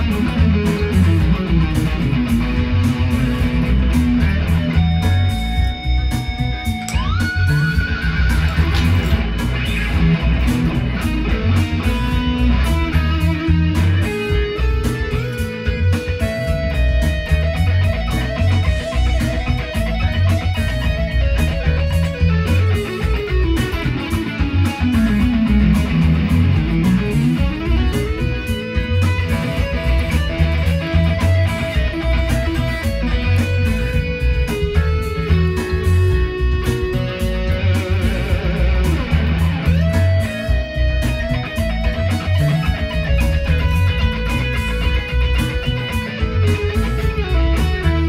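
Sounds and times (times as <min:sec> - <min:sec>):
electric guitar lead lines: 0:00.0 - 0:48.0
low bass line: 0:00.0 - 0:48.0.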